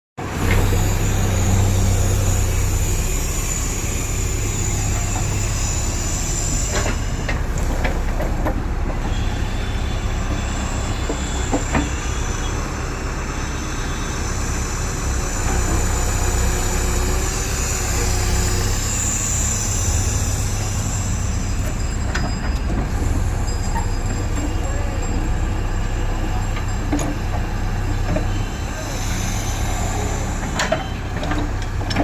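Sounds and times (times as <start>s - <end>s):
machine humming and whining: 0.2s - 32.0s.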